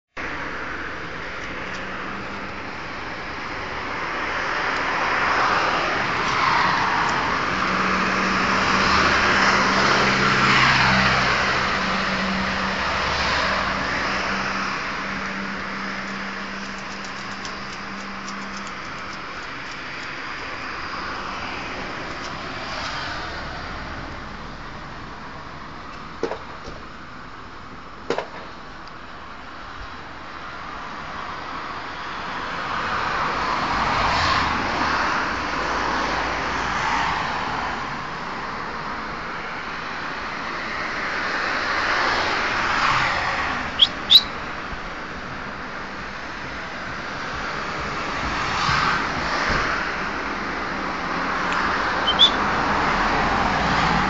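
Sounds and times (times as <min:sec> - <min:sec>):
vehicles passing: 0:00.2 - 0:54.0.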